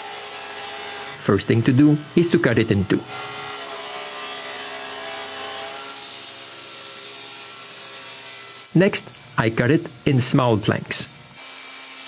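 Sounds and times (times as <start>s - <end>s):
power saw cutting wood: 0.0s - 12.0s.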